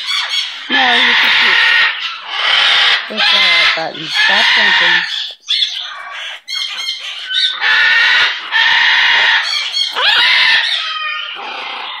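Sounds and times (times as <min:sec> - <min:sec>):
macaw squawking: 0:00.0 - 0:12.0.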